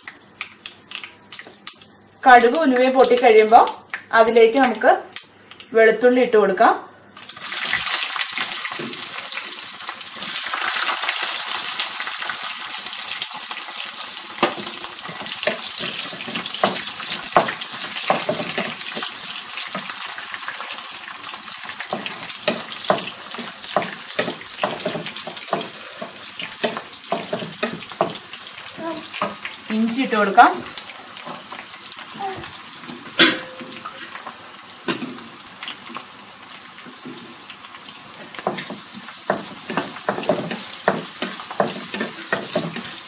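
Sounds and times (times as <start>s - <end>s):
garlic sizzling in oil: 7.2s - 43.0s.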